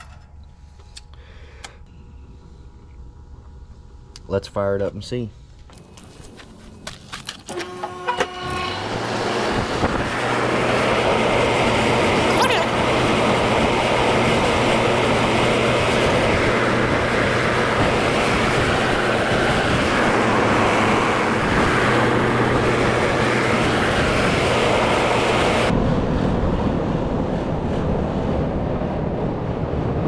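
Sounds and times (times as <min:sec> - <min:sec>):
low compressor hum: 0:00.0 - 0:06.9, 0:07.6 - 0:30.0
condenser fan air rush: 0:00.0 - 0:30.0.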